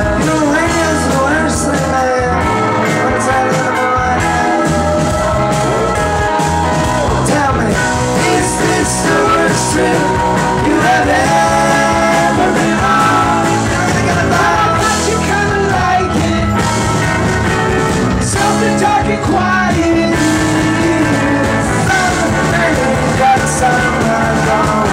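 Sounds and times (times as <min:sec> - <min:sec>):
man singing: 0:00.0 - 0:06.2, 0:07.0 - 0:16.8, 0:18.2 - 0:24.9
drums: 0:00.0 - 0:24.9
electric bass: 0:00.0 - 0:24.9
electric guitar: 0:00.0 - 0:24.9.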